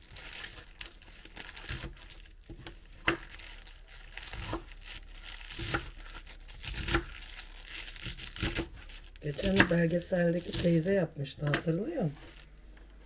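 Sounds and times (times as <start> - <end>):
spinach leaves crinkling: 0.0 - 13.0.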